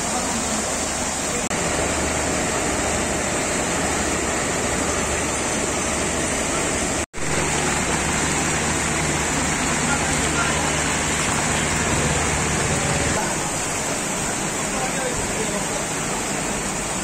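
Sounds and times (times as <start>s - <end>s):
floodwater rushing over ledge: 0.0s - 17.0s.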